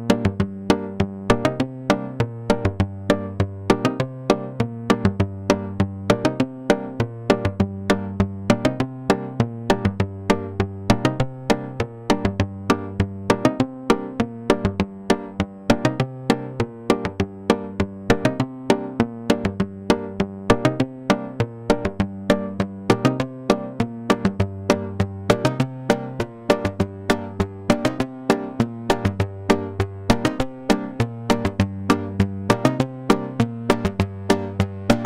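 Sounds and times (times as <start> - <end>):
held synth bass line: 0.0 - 35.0.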